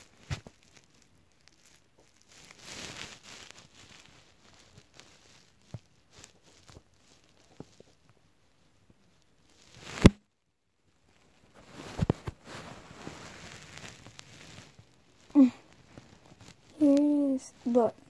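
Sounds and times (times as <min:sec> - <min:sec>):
rustling with thumps: 0:00.0 - 0:10.3, 0:11.1 - 0:18.0.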